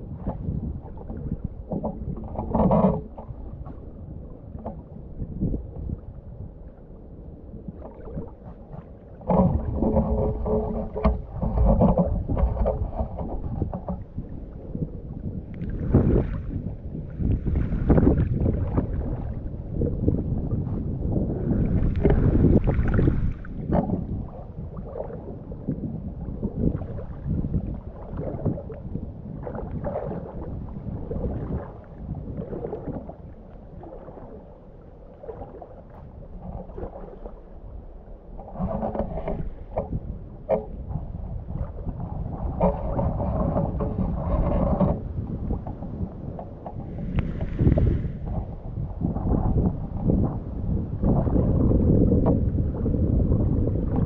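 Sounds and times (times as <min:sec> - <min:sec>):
wind rumble on microphone: 0:00.0 - 0:54.0
water sloshing around waders: 0:07.8 - 0:51.6.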